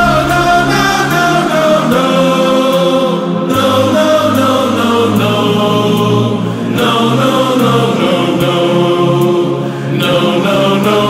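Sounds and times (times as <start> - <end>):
song with choir-like vocals: 0.0 - 11.0.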